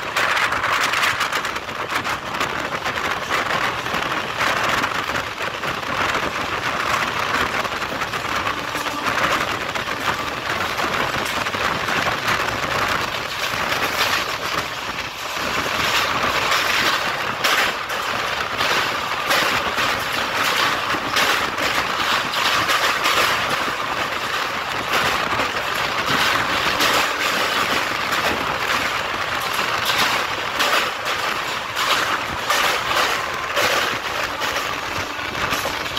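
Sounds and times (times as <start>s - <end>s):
train wheels rolling on rails: 0.0s - 35.9s
wheels clicking over track: 0.0s - 35.9s.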